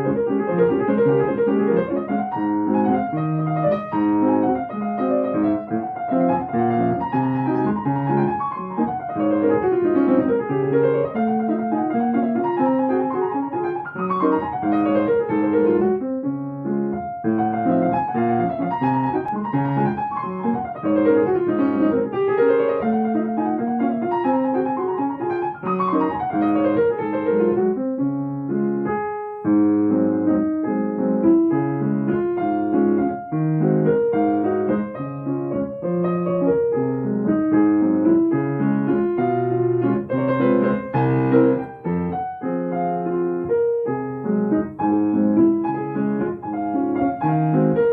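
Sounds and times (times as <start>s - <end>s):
fast solo piano: 0.0s - 47.9s.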